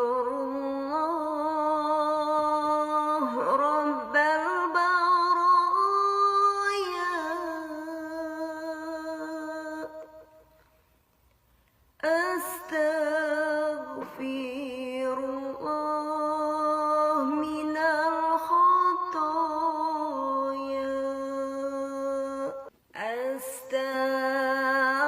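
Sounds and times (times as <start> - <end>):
person chanting: 0.0 - 10.5, 12.0 - 25.0.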